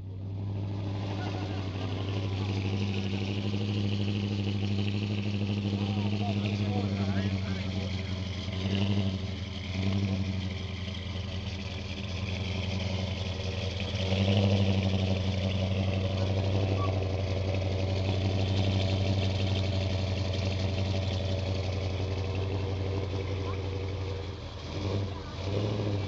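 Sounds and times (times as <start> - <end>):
engine idling through exhaust: 0.0 - 26.0.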